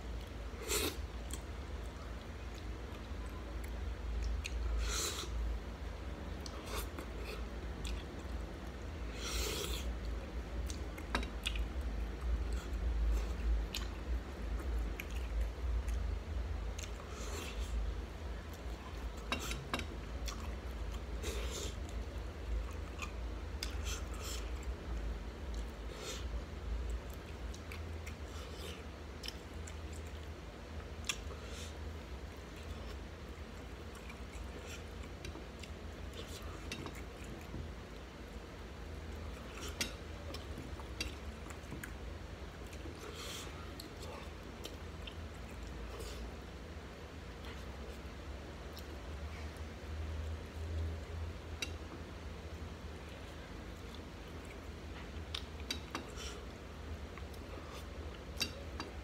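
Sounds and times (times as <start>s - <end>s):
steady low hum: 0.0s - 59.0s
person chewing with wet smacks: 0.1s - 59.0s.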